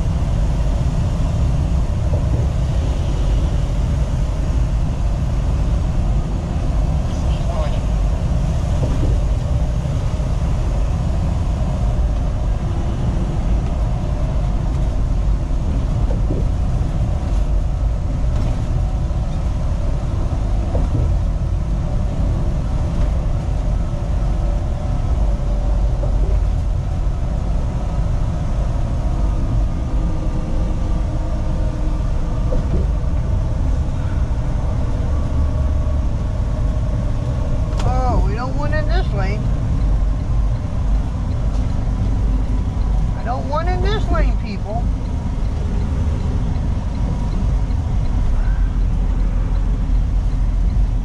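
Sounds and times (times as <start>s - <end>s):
diesel engine and tyre drone: 0.0s - 51.0s
faint engine hum: 0.0s - 51.0s.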